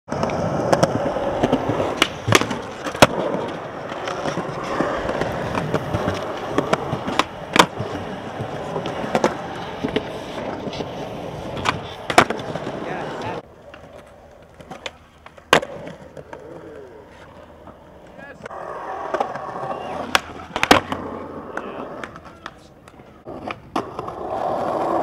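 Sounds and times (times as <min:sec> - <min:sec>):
skateboard clacking on concrete: 0:00.1 - 0:25.0
skateboard wheels rolling on concrete: 0:00.1 - 0:25.0.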